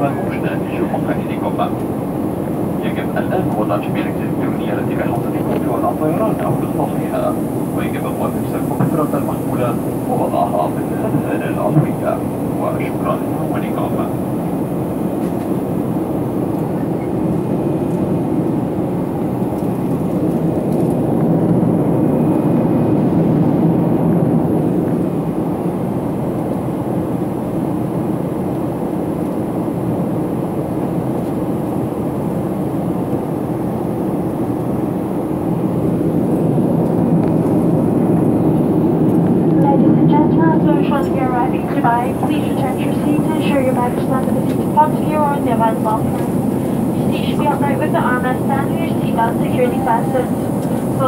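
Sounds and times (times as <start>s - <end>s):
airliner cabin engine drone: 0.0s - 51.0s.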